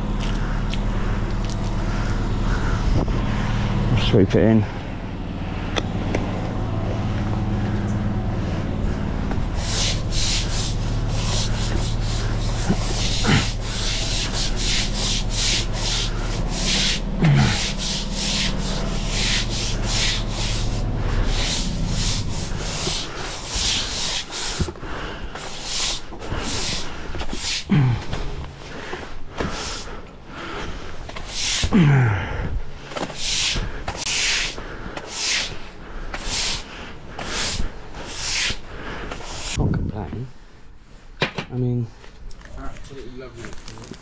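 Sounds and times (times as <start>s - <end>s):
stiff broom sweeping wet slabs: 0.0s - 30.0s, 32.9s - 39.6s
steady low hum: 0.0s - 41.2s.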